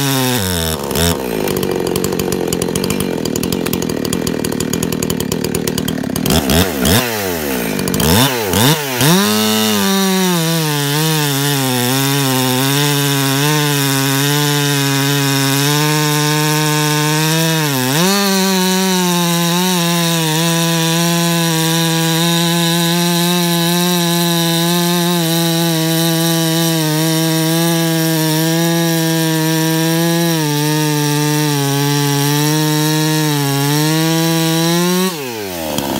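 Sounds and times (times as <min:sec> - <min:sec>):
chainsaw cutting log: 0:00.0 - 0:35.9.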